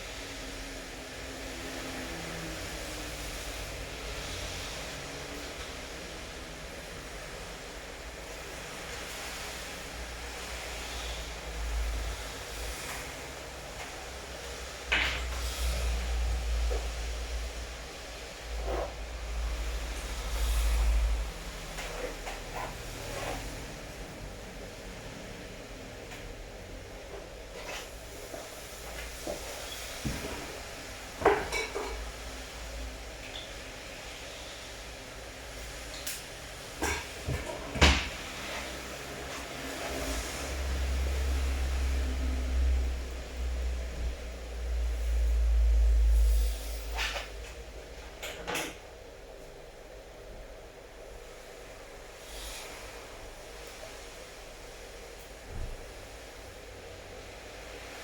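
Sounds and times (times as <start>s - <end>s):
steady rain falling: 0.0s - 48.2s.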